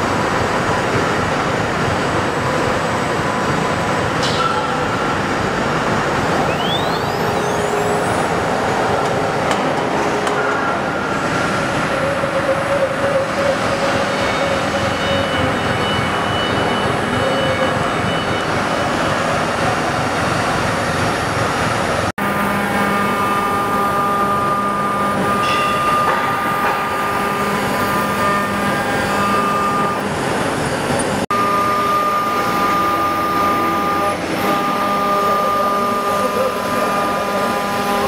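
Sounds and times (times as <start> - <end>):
router spindle high whine: 0.0 - 21.3, 22.2 - 38.0
metal cutting machine noise: 0.0 - 38.0.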